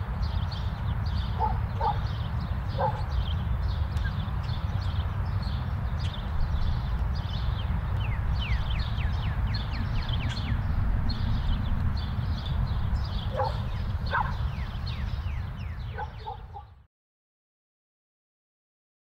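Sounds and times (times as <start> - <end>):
steady low rumble: 0.0 - 16.4
birds chirping: 0.0 - 16.9
low bird calls: 0.3 - 16.9.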